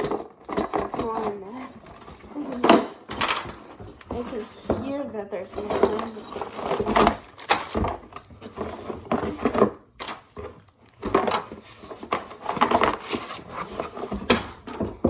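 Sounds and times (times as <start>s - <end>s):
plastic toy parts clattering in box: 0.0s - 15.0s.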